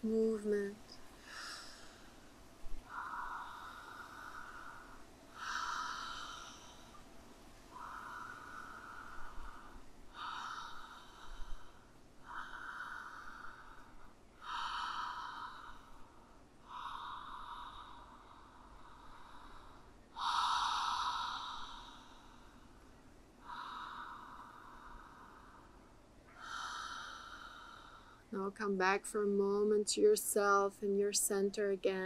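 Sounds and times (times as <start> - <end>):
woman breathing deeply: 0.9 - 28.3.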